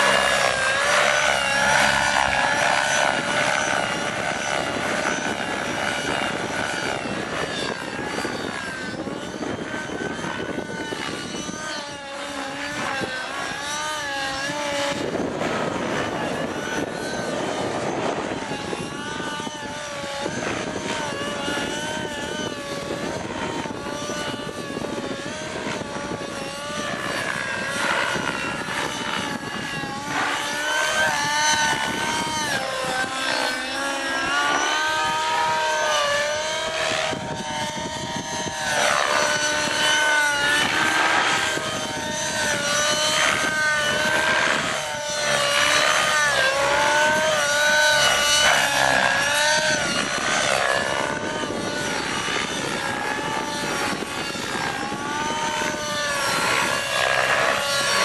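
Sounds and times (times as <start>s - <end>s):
model helicopter engine whine: 0.0s - 58.0s.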